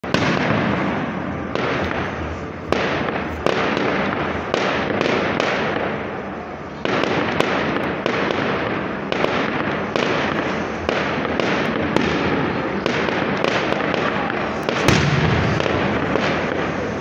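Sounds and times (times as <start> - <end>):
firework crackle: 0.0 - 17.0.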